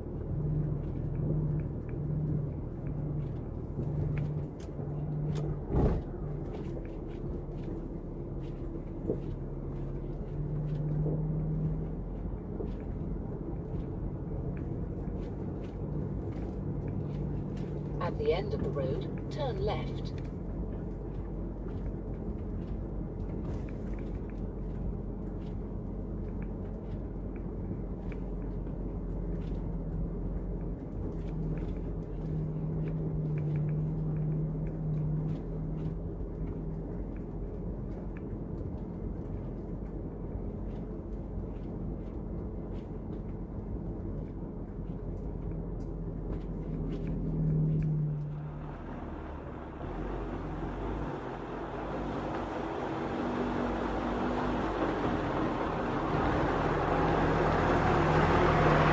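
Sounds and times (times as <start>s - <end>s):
truck engine droning: 0.0s - 58.9s.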